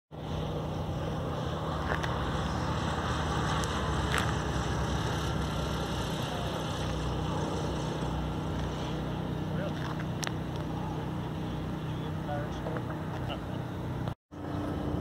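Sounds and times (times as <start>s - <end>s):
engine droning: 0.1s - 15.0s.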